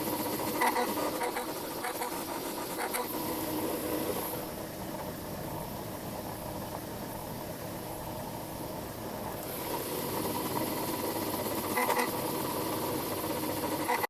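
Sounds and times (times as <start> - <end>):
stepper motors running: 0.0 - 14.0.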